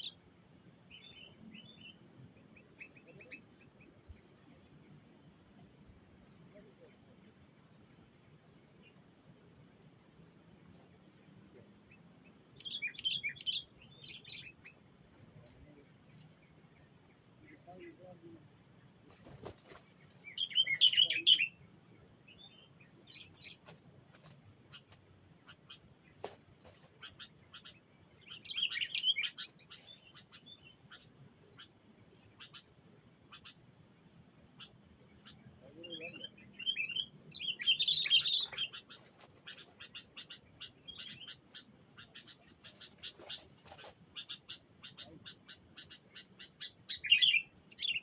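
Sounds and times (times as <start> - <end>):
songbird chirping: 0.0 - 48.0.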